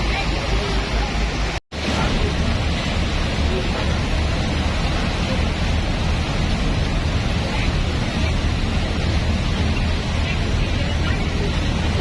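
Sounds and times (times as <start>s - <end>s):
boat engines rumbling: 0.0s - 12.0s
wind and water rushing: 0.0s - 12.0s.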